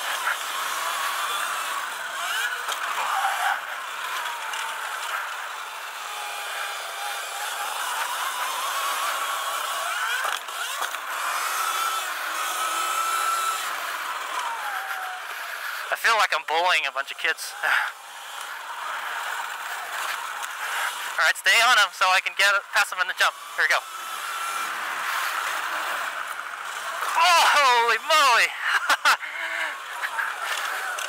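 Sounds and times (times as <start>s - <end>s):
wind: 0.0s - 15.9s, 17.1s - 21.7s, 22.6s - 31.0s
electric motor whine: 0.0s - 31.0s.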